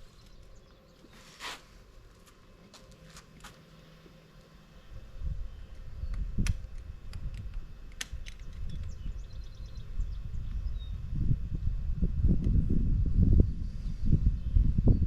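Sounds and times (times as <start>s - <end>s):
low rumble of handling noise: 0.0s - 15.0s.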